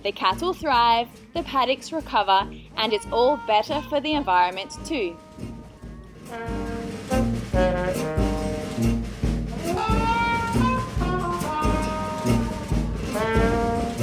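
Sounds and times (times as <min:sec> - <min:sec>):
upbeat brass music with beat: 0:00.0 - 0:14.0.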